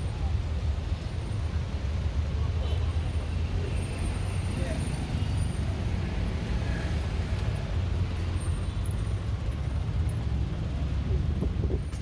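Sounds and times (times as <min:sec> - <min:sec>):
street noise: 0:00.0 - 0:12.0
vehicle engines rumbling: 0:00.0 - 0:12.0.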